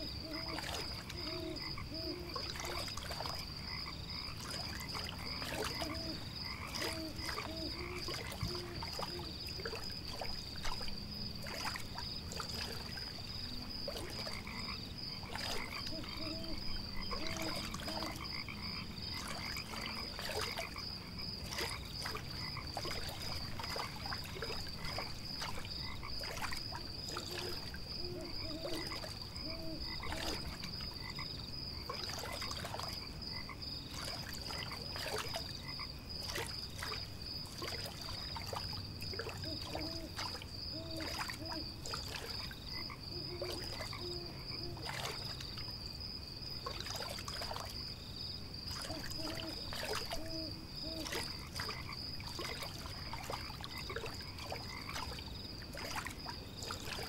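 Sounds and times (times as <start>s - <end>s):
frogs croaking: 0.0s - 57.0s.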